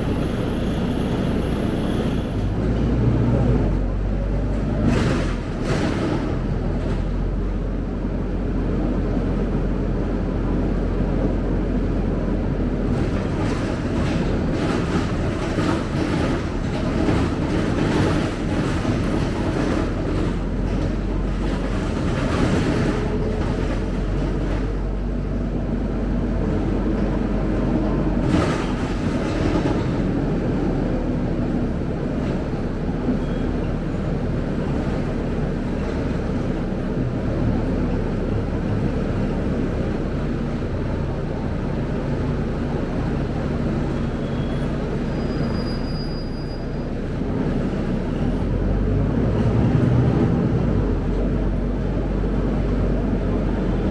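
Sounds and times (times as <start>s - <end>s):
bus engine and road rumble: 0.0s - 53.9s.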